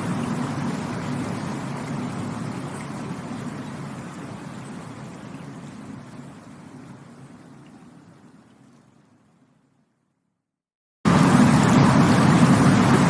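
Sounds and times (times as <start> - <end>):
rushing stream water: 0.0 - 9.5, 11.1 - 13.0.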